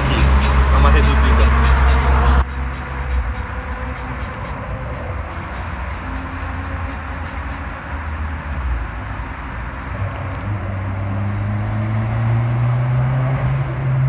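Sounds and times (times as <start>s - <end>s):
car engine revving under throttle: 0.0s - 3.0s, 3.9s - 14.0s.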